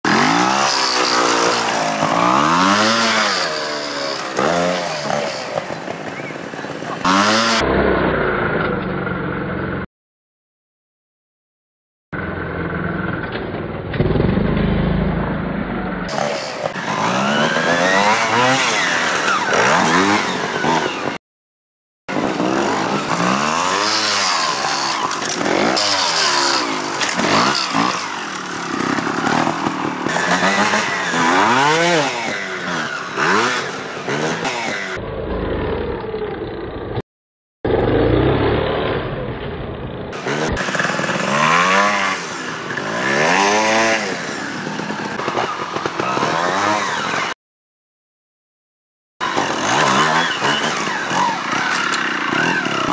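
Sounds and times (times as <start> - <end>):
motorcycle engines revving: 0.0 - 9.8, 12.2 - 21.2, 22.1 - 37.0, 37.7 - 47.4, 49.2 - 52.9.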